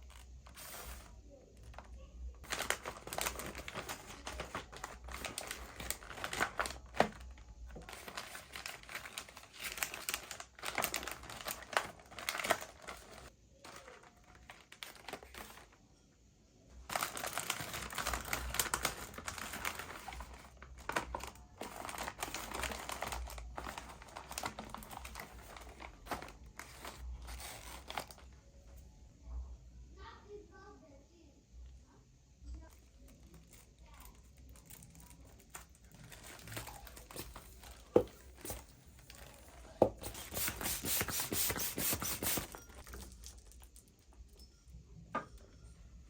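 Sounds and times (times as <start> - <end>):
plastic packaging crinkling: 0.0 - 15.8, 16.9 - 28.4, 32.6 - 44.1.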